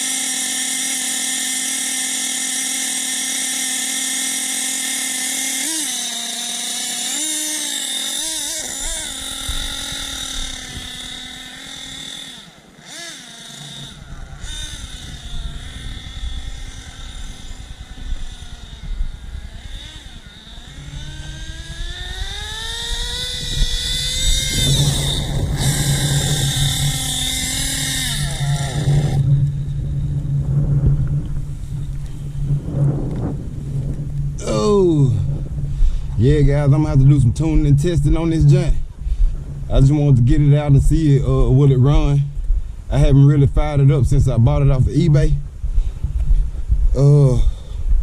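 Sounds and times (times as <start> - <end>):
rc buggy engine whining: 0.0 - 47.9.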